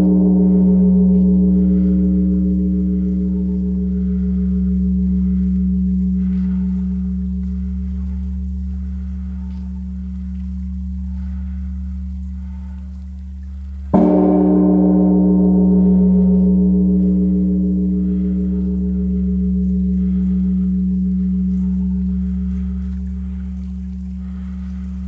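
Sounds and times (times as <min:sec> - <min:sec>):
large temple bell ringing: 0:00.0 - 0:25.0.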